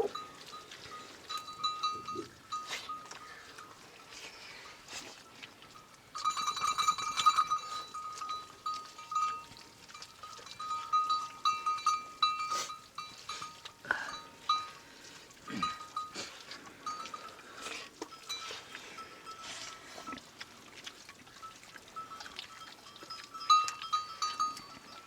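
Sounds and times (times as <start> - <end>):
livestock bells clinking: 0.0 - 20.4, 21.3 - 25.0.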